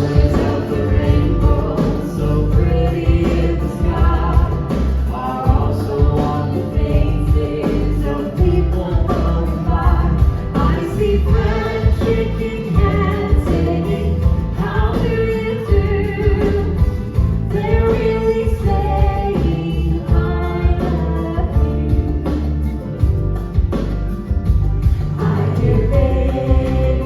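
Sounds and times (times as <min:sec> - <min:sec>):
heavy bass beat: 0:00.0 - 0:27.0.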